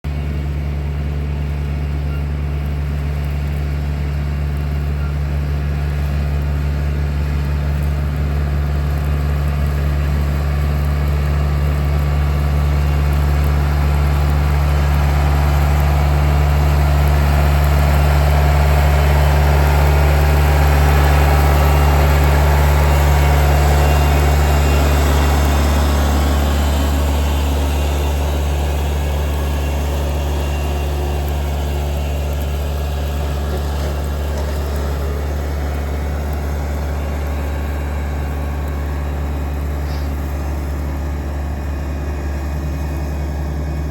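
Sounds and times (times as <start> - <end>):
engine humming: 0.1 - 43.9.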